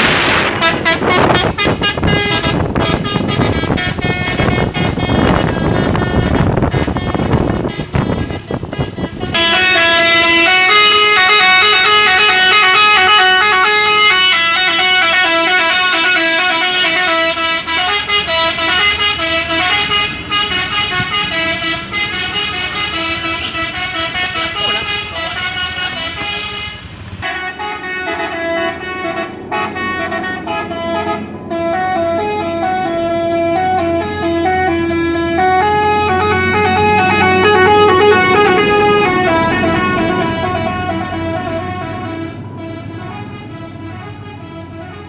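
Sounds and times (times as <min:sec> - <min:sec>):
musical truck horn tune: 0:00.0 - 0:45.0.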